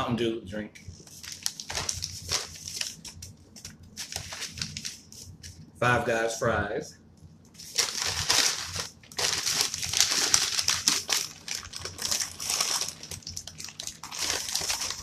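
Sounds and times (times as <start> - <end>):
paper packaging crinkling: 1.0 - 5.6, 7.6 - 15.0.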